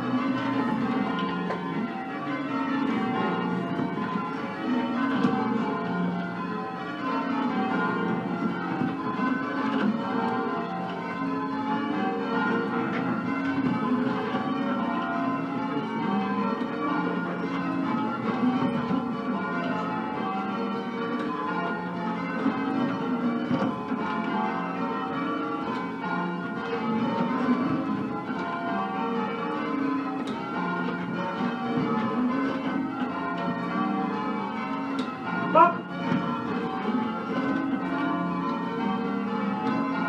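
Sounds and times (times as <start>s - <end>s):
church bells change ringing: 0.0s - 40.0s.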